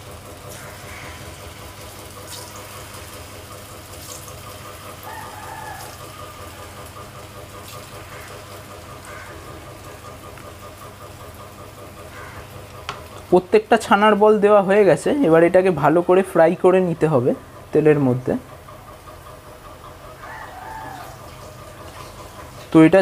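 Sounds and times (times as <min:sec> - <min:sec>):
cheese balls sizzling in oil: 0:00.0 - 0:16.3, 0:20.0 - 0:23.0
steady low hum: 0:00.0 - 0:23.0.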